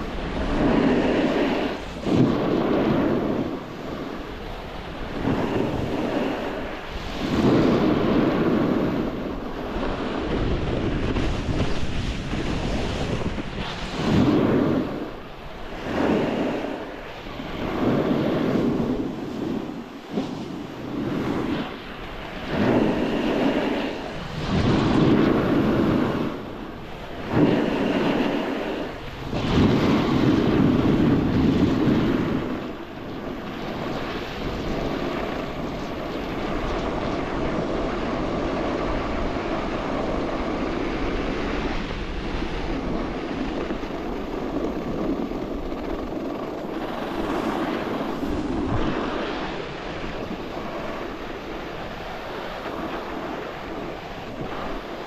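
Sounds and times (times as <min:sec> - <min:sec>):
snowboard scraping on snow: 0:00.0 - 0:04.3, 0:05.0 - 0:32.6, 0:33.6 - 0:55.0.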